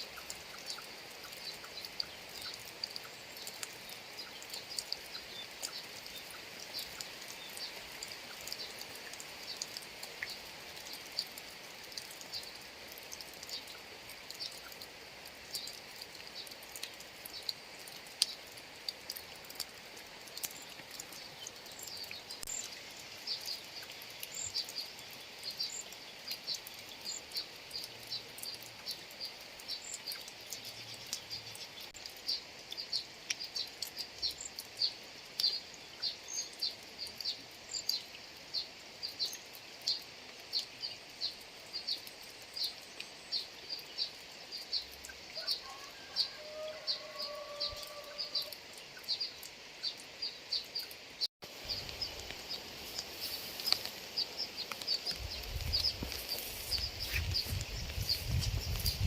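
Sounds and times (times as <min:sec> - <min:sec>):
drips ticking: 0:00.0 - 0:59.0
rain pattering: 0:00.0 - 0:59.0.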